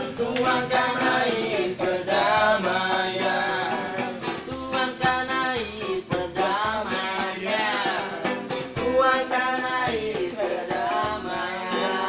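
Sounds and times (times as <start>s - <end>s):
person singing: 0.0s - 12.0s
plucked guitar: 0.0s - 12.0s.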